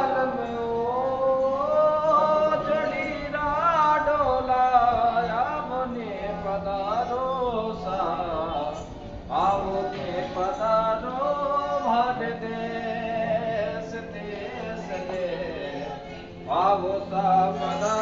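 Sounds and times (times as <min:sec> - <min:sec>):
man singing folk melody: 0:00.0 - 0:18.0.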